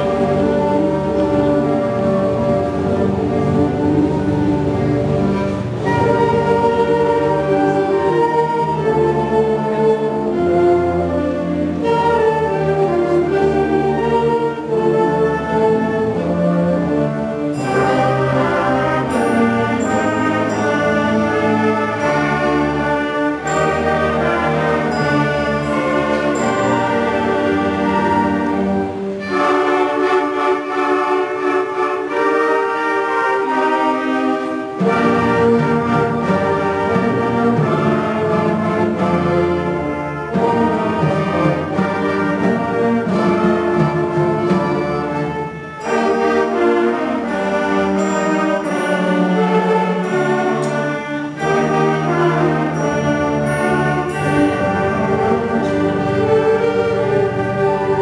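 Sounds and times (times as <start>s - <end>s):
brass instruments: 0.0s - 58.0s
concert band playing: 0.0s - 58.0s.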